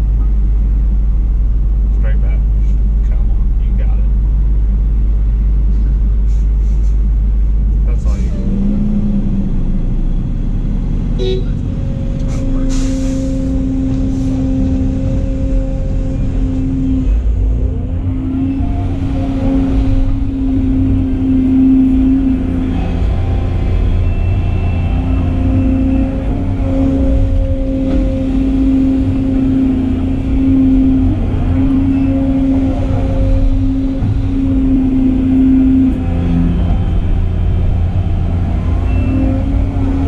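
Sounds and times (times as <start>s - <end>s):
excavator engine and hydraulics: 0.0s - 40.0s.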